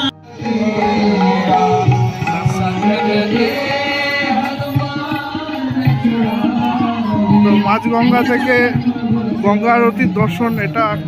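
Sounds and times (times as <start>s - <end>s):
devotional singing: 0.0s - 11.0s
hand drums: 0.0s - 11.0s.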